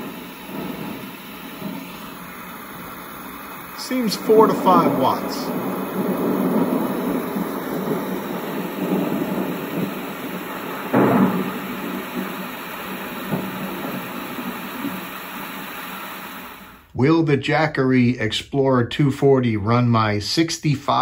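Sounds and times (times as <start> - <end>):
steady rain: 0.0 - 16.9
thunder rumble: 0.0 - 17.1
thunder clap: 0.0 - 17.2.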